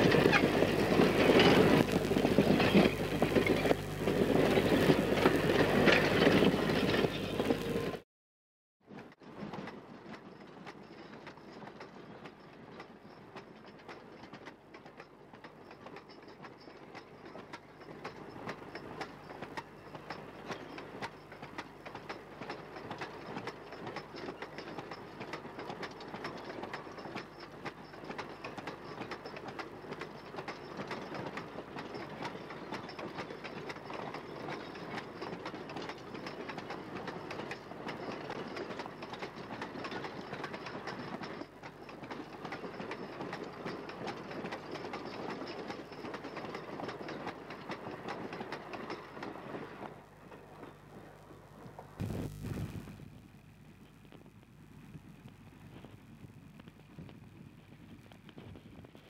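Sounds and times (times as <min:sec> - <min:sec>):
train wheels clattering on rails: 0:00.0 - 0:08.0, 0:09.0 - 0:51.9.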